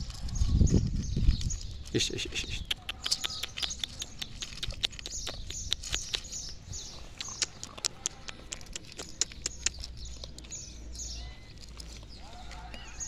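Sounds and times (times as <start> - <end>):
birds chirping: 0.0 - 13.0
puppy crunching dry kibble: 0.0 - 13.0.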